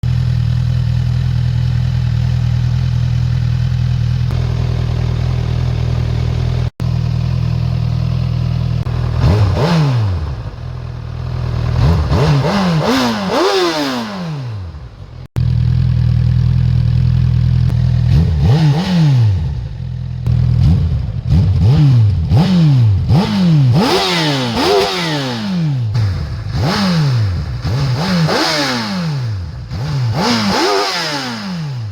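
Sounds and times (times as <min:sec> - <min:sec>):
motorcycle engine idling: 0:00.0 - 0:28.4
motorcycle engine revving: 0:00.0 - 0:31.9.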